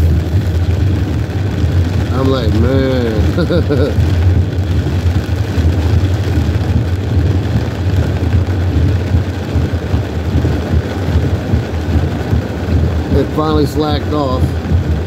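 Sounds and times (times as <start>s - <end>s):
low engine rumble: 0.0s - 15.0s
rain hitting car roof: 0.0s - 15.0s
tyres hissing on wet road: 0.0s - 15.0s
windshield wipers: 0.0s - 15.0s.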